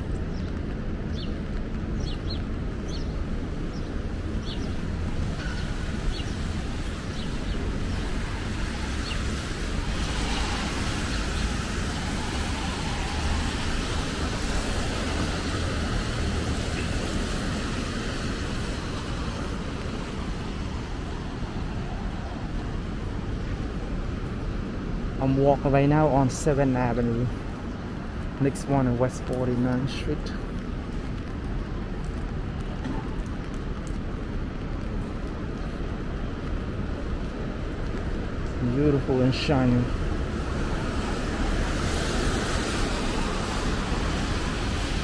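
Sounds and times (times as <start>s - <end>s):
traffic rumble: 0.0s - 45.0s
tyres hissing on wet road: 2.0s - 45.0s.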